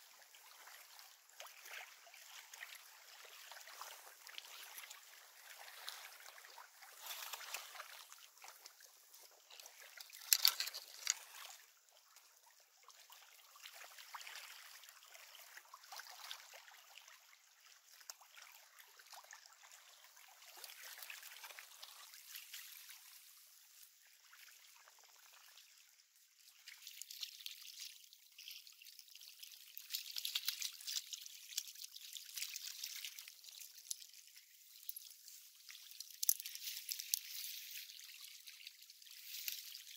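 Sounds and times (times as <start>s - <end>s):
small waves lapping on stones: 0.0s - 39.9s.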